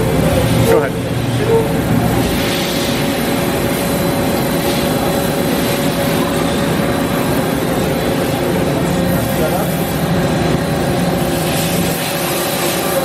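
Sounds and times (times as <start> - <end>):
machining center mechanical hum: 0.0 - 13.0.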